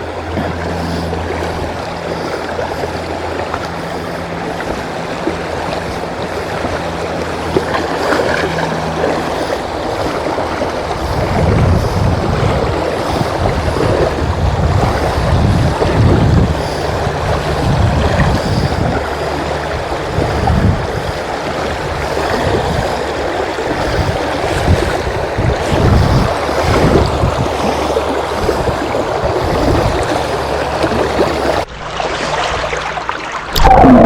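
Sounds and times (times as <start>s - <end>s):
wind buffeting microphone: 0.0s - 31.7s.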